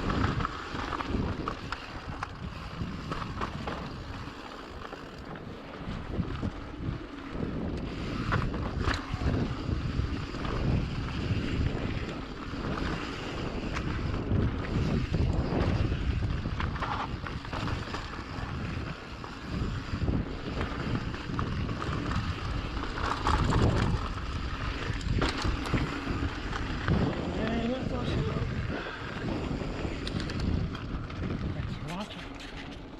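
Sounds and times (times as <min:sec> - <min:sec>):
bike knocks and rattles: 0:00.0 - 0:28.1, 0:29.4 - 0:32.9
wind buffeting microphone: 0:00.0 - 0:32.9.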